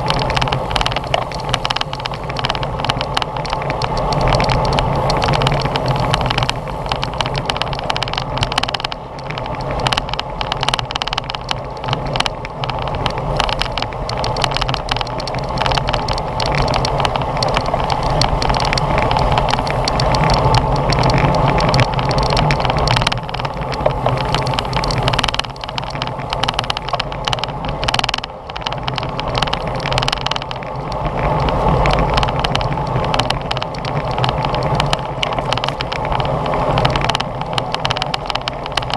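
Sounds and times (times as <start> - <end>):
sharp rattling clicks: 0.0 - 38.9
tyre and road noise: 0.0 - 38.9
wind rushing over microphone: 0.0 - 38.9.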